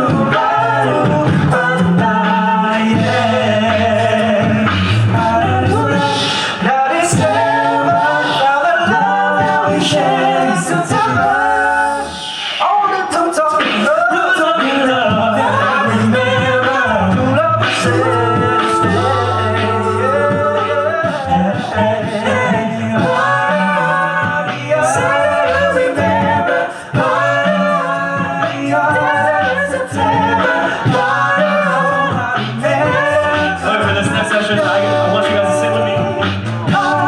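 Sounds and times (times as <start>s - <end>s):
men singing in close harmony: 0.0s - 37.0s.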